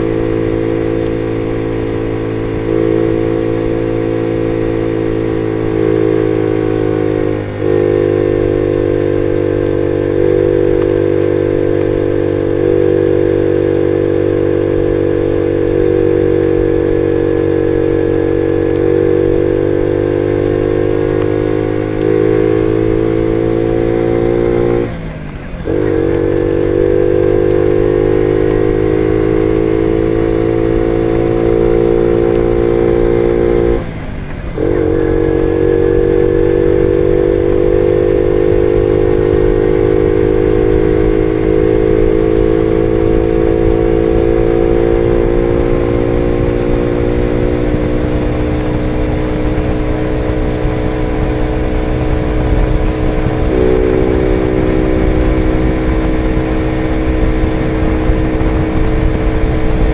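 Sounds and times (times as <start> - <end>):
moped engine running: 0.0 - 59.9.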